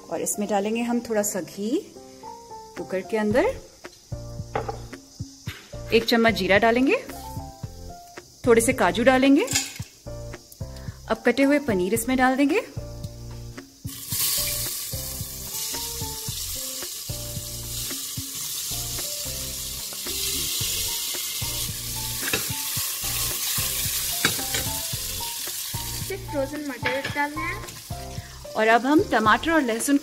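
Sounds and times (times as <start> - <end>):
food sizzling in hot fat: 0.0 - 30.0
soft background music: 0.0 - 30.0.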